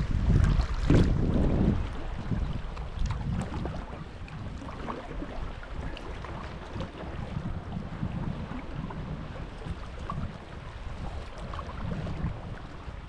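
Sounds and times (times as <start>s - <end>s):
water lapping and splashing: 0.0s - 13.0s
wind buffeting microphone: 0.0s - 13.0s.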